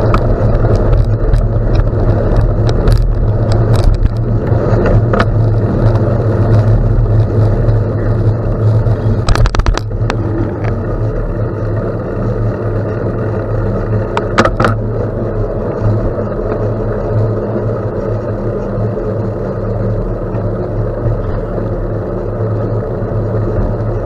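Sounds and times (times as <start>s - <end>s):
sharp clicks and rattles: 0.0s - 21.7s
bicycle tyres rolling on gravel: 0.0s - 24.0s.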